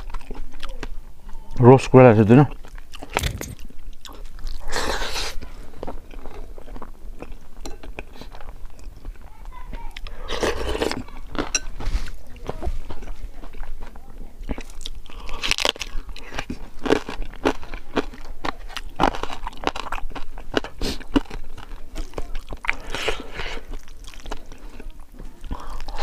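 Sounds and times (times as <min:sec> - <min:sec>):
crunching and chewing: 0:00.0 - 0:01.6, 0:02.3 - 0:26.0.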